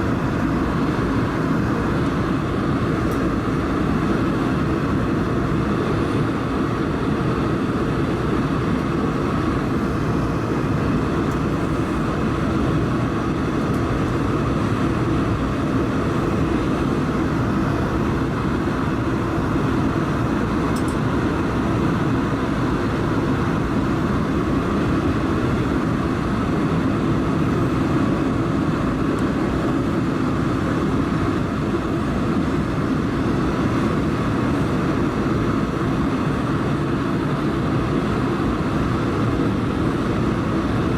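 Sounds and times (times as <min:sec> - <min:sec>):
airliner cabin engine rush: 0:00.0 - 0:40.9.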